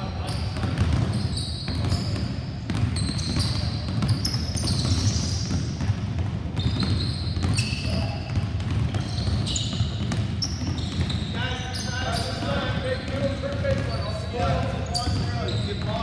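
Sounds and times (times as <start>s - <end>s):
sneakers squeaking on court: 0.0s - 16.0s
basketballs bouncing on hardwood: 0.1s - 16.0s.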